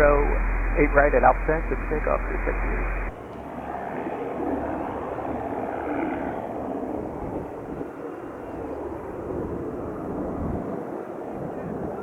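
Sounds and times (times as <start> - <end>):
aircraft engine noise: 0.0 - 10.6.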